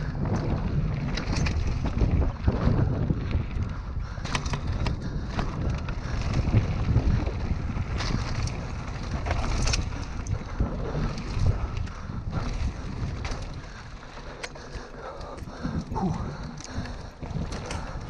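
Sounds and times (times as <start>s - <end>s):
bike clicks and knocks over bumps: 0.0s - 18.0s
bike tyres rolling over dirt: 0.0s - 18.0s
wind buffeting microphone: 0.0s - 18.0s.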